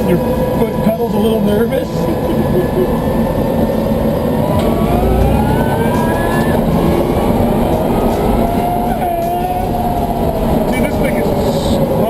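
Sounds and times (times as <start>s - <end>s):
road and drivetrain rumble: 0.0s - 12.0s
electric motor whining: 1.9s - 12.0s.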